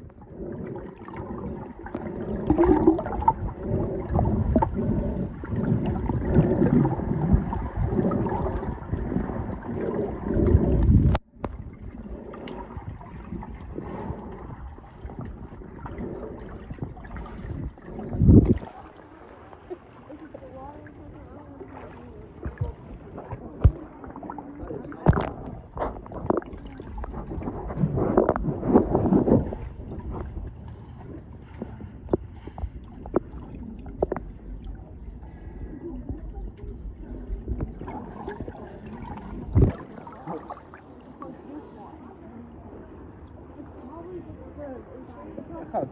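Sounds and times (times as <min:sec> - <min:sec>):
bubbling: 0:00.0 - 0:42.0
underwater gurgling: 0:00.0 - 0:45.9.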